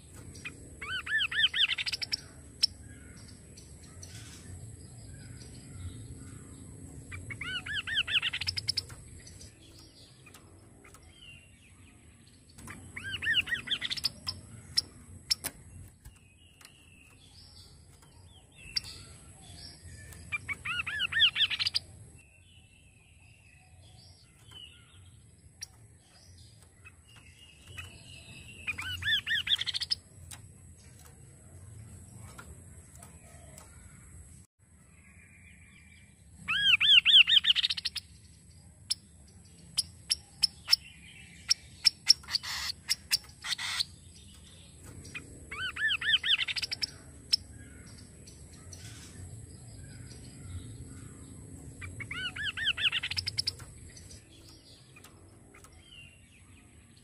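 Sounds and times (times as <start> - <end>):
bird singing rising notes: 0.0 - 34.4, 39.8 - 57.0
soft bird chirps: 0.0 - 57.0.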